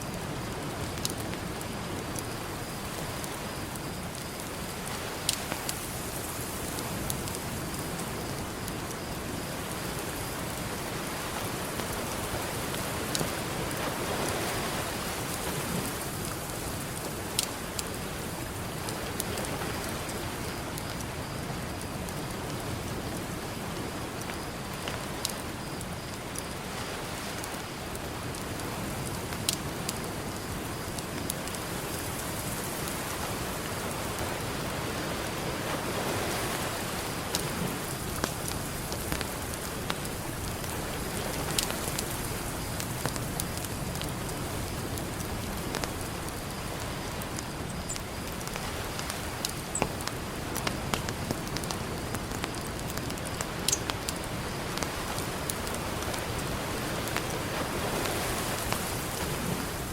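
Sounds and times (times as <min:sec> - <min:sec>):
campfire crackling and popping: 0:00.0 - 0:59.9
ocean surf: 0:00.0 - 0:59.9.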